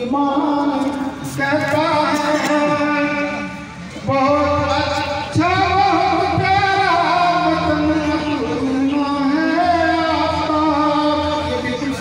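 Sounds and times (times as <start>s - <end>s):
person singing long held notes: 0.0s - 12.0s.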